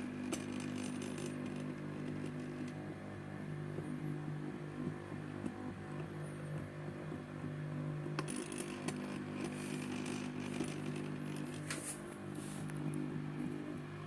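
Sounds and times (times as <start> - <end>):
small electric motor humming: 0.0 - 14.0.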